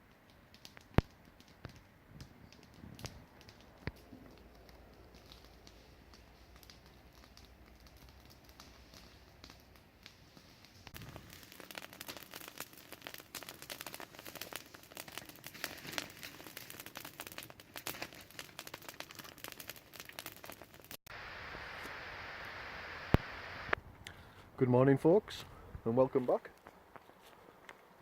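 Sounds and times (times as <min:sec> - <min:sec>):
wood fire crackling and popping: 0:00.0 - 0:24.4, 0:25.3 - 0:28.0.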